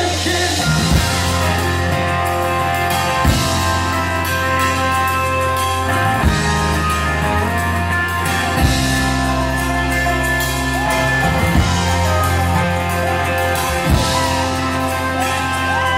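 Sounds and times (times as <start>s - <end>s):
drum and cymbal hits: 0.0s - 15.9s
live rock band playing: 0.0s - 15.9s.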